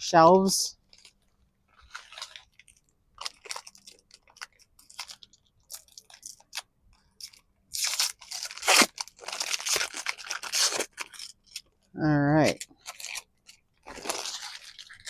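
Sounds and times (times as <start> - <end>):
plastic packaging crinkling: 0.8 - 11.8, 12.4 - 15.0.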